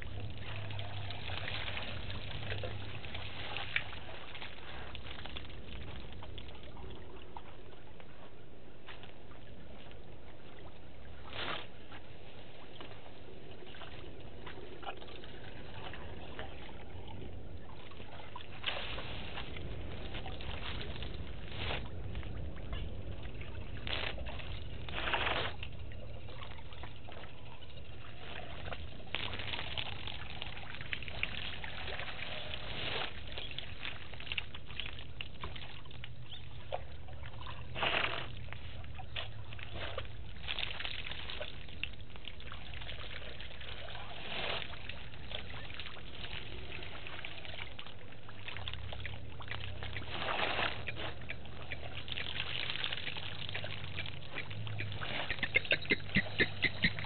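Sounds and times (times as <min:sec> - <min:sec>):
steady outdoor hiss: 0:00.0 - 0:57.0
water trickling and splashing: 0:00.0 - 0:57.0.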